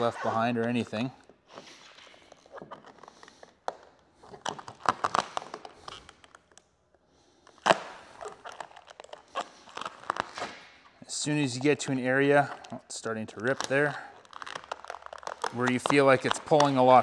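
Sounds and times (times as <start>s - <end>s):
plastic film crackling as peeled: 2.0s - 6.7s, 7.4s - 10.9s, 11.5s - 17.0s.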